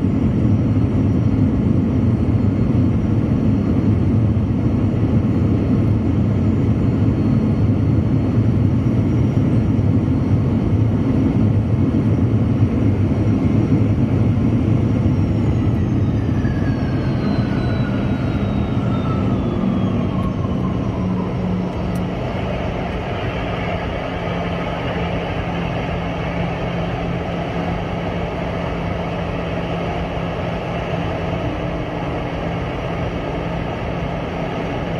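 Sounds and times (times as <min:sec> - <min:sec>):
jet engines spooling down: 0:00.0 - 0:34.9.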